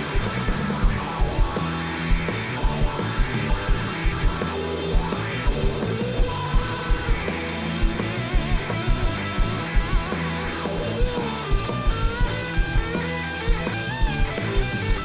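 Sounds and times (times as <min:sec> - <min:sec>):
blues-rock band playing: 0:00.0 - 0:15.0
electric guitar: 0:00.0 - 0:15.0.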